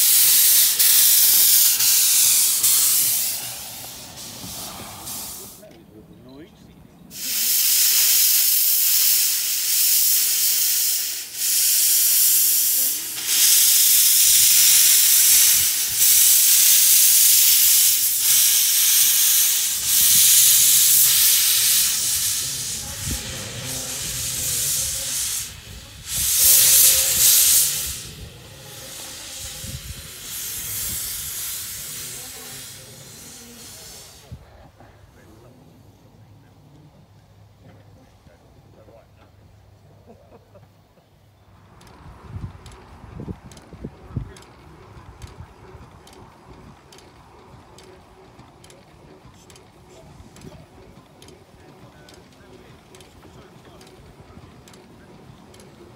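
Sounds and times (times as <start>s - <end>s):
steam hissing in long blasts: 0.0s - 5.8s, 7.1s - 36.1s, 41.5s - 55.9s
low rumble of steam engine: 0.0s - 55.9s.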